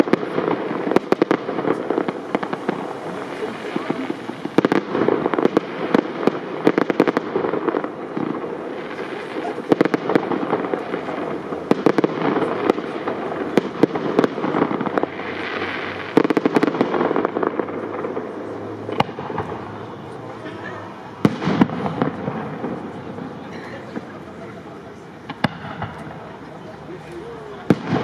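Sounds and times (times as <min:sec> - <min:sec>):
firework bangs: 0:00.0 - 0:28.0
firework crackle: 0:00.0 - 0:28.0.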